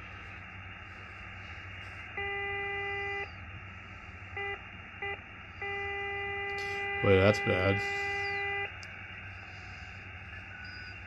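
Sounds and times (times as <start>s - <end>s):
radio receiver hiss: 0.0s - 11.0s.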